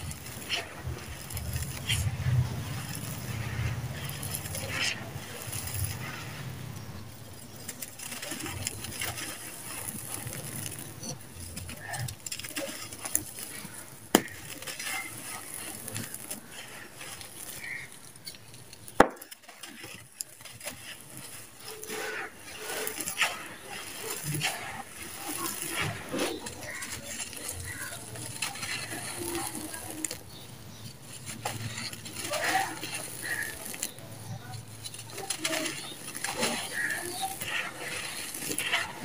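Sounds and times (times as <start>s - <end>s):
grains trickling onto heap: 0.0s - 6.8s, 7.4s - 39.0s
hands crumbling dry powder: 0.0s - 39.0s.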